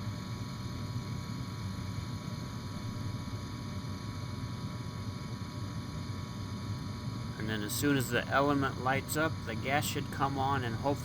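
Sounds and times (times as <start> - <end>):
furnace fan hum and whoosh: 0.0 - 11.0.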